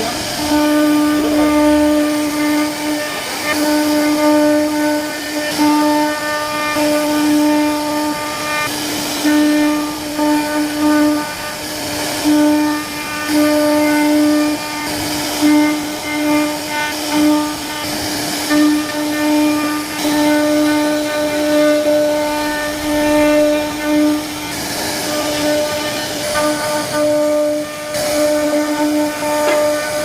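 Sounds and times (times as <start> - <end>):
hiss of wood cutting: 0.0 - 30.0
router spindle whine: 0.0 - 30.0.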